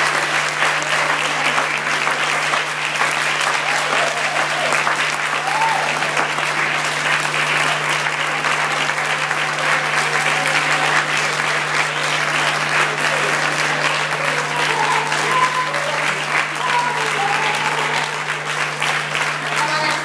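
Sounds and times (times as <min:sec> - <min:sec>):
congregation clapping: 0:00.0 - 0:20.0.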